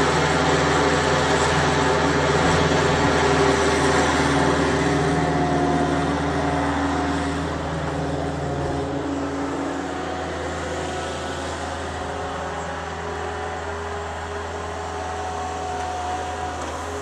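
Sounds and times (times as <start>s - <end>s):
skid steer engine droning: 0.0s - 17.0s.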